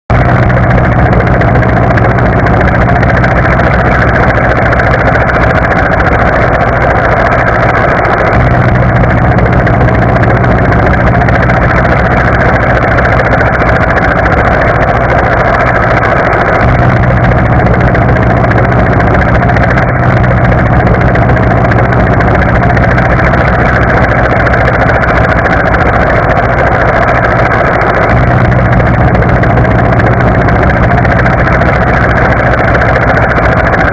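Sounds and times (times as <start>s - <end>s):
helicopter rotor and engine drone: 0.1s - 33.9s.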